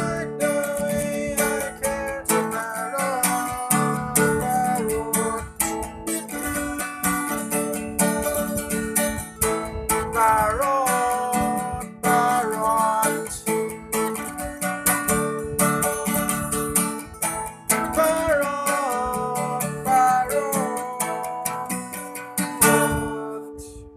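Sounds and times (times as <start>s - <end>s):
lead guitar with bent notes: 0.0s - 23.9s
strummed guitar chords: 0.0s - 23.9s.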